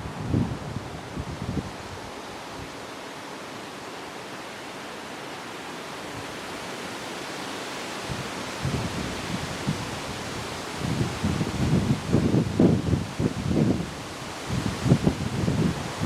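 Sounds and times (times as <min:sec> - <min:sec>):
wind blowing through foliage: 0:00.0 - 0:16.0.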